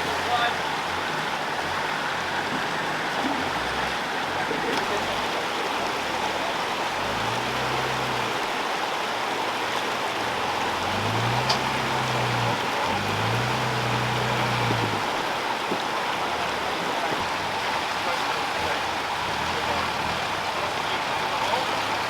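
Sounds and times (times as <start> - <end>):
off-road vehicle engine revving: 0.0 - 8.8, 9.4 - 22.0
rushing river water: 0.0 - 22.0.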